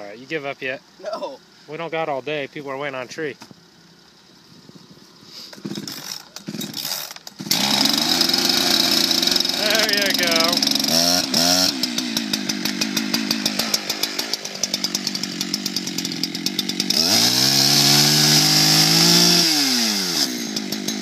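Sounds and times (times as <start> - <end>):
chainsaw engine idling and revving: 3.6 - 21.0.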